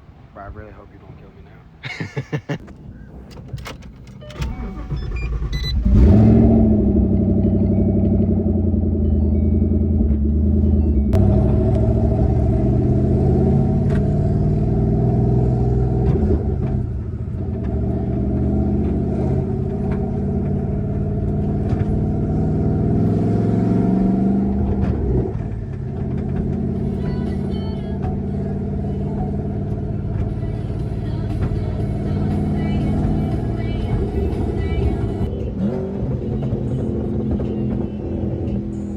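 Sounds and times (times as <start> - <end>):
car engine revving: 3.5 - 38.9.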